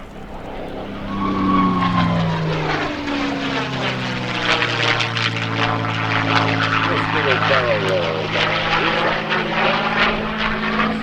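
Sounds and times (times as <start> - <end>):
propeller plane engine passing by: 0.0 - 11.0.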